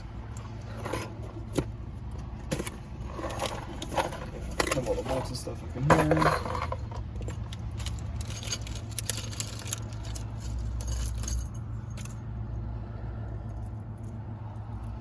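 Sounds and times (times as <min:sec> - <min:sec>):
metal bolts clinking: 0:00.0 - 0:12.3.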